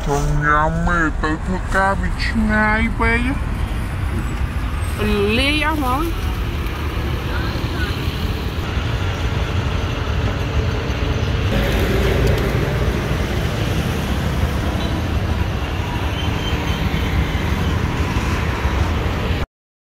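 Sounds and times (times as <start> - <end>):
street traffic rumble: 0.0 - 19.5.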